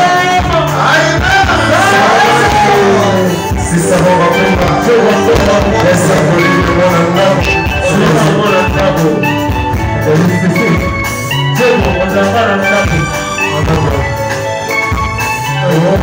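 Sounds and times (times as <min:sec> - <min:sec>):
dance-band music with drums: 0:00.0 - 0:16.0.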